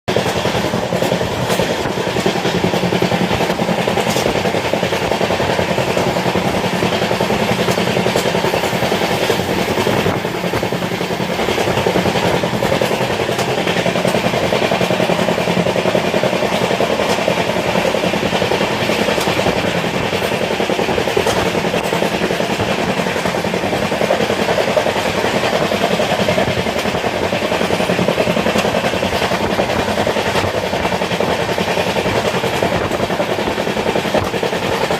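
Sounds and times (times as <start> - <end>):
train carriage rumbling and rattling: 0.0 - 34.9.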